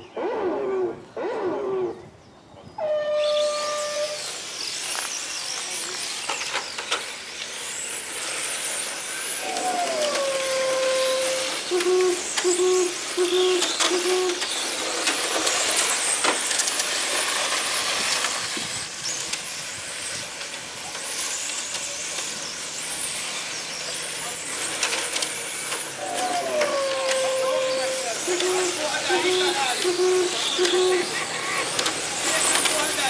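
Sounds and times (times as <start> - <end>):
rc car motors whining: 2.9 - 33.0.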